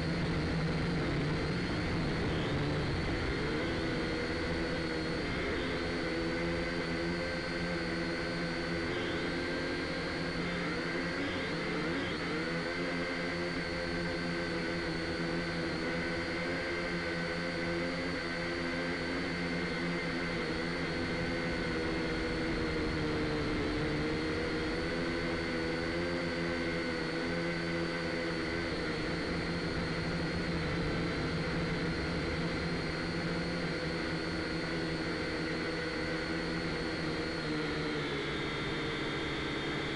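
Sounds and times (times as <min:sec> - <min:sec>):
drone propellers whirring: 0:00.0 - 0:39.9.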